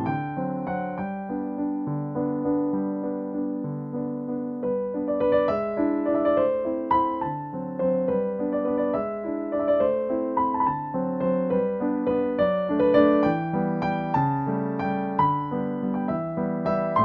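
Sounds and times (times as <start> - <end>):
gentle piano waltz: 0.0 - 17.0.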